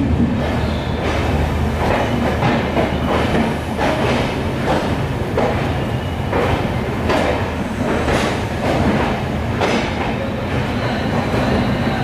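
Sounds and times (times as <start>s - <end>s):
train wheels rumbling on rail: 0.0s - 12.0s
wheels clacking over rail joints: 1.0s - 11.0s.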